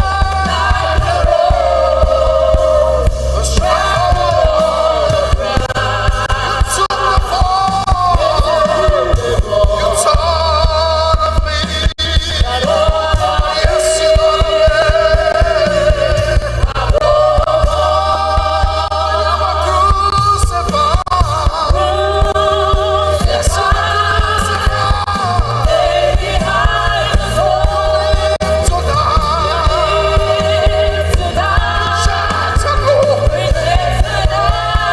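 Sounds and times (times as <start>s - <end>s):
band with steady bass: 0.0s - 34.9s
voices singing gospel: 0.0s - 34.9s.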